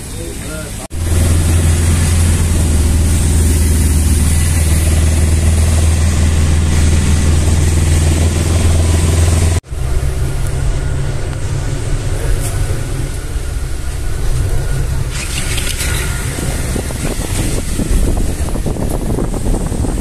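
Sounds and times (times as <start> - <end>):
auto-rickshaw engine running: 0.0 - 20.0
bus engine hum: 0.0 - 20.0.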